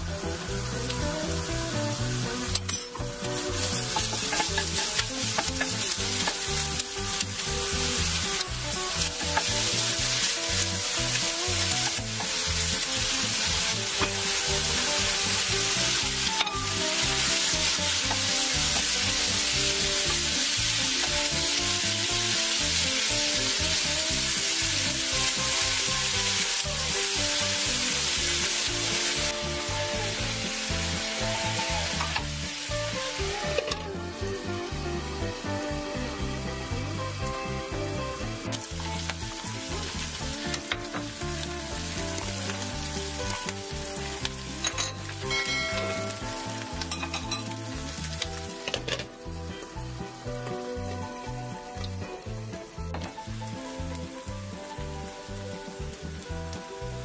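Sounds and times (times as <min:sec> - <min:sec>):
onions sizzling in a frying pan: 0:00.0 - 0:57.0.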